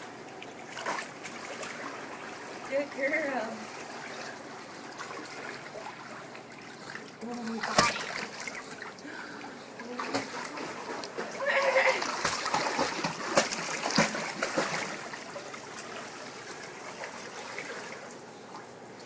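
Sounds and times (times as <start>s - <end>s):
water splashing from swimming dog: 0.0s - 18.8s.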